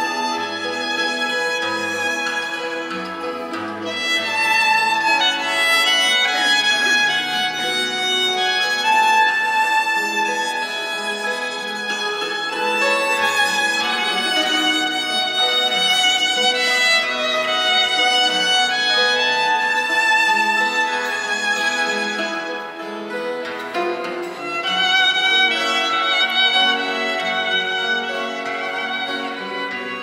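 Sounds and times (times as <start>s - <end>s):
guitars plucking: 0.0s - 30.0s
violin melody: 0.0s - 30.0s.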